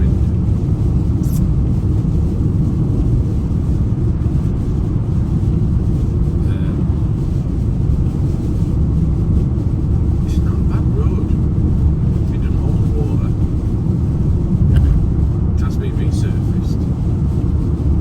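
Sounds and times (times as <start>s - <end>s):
vehicle driving rumble: 0.0s - 18.0s.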